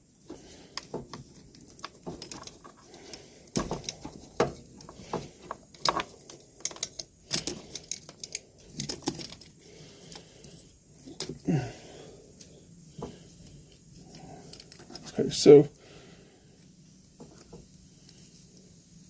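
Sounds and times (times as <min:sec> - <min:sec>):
wires and tape rustling: 0:00.0 - 0:15.9, 0:16.5 - 0:19.0.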